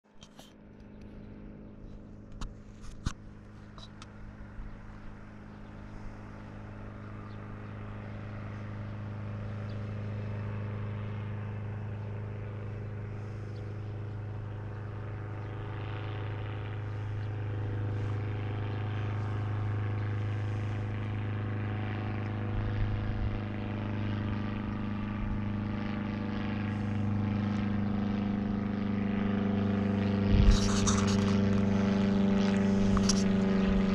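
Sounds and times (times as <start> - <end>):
propeller aircraft droning: 0.0 - 33.9.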